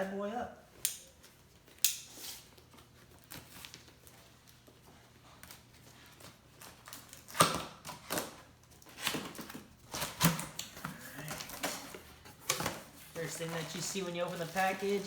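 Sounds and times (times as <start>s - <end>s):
packing rustling: 1.4s - 15.0s.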